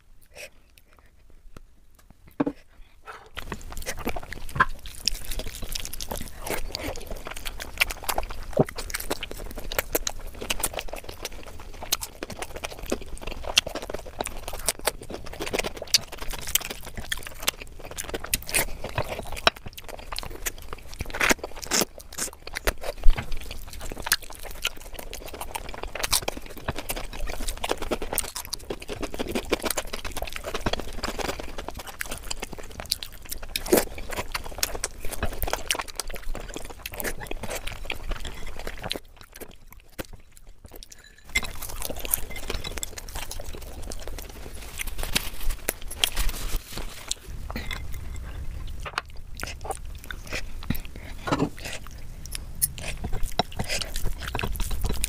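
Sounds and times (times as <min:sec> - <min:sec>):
chewing and mouth sounds: 0:00.0 - 0:55.0.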